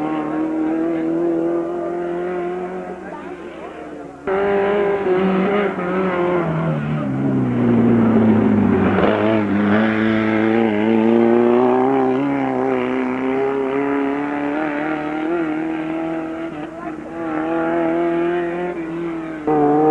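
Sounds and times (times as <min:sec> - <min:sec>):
race car engine running hard: 0:00.0 - 0:19.9.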